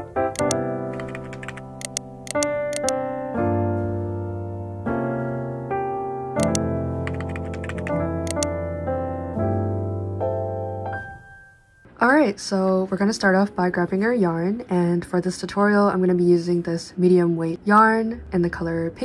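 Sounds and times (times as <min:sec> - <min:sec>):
keyboard background music: 0:00.0 - 0:19.0.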